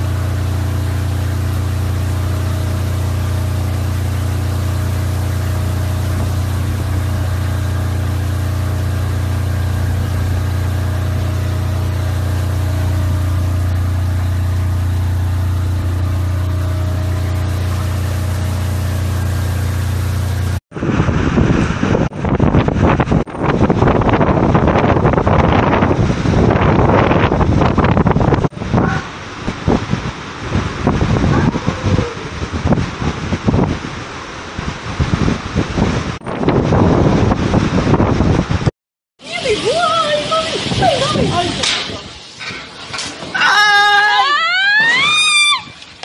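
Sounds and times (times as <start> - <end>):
strong wind buffeting microphone: 0.0 - 38.7, 39.3 - 42.2
engine running with low hum: 0.0 - 43.9.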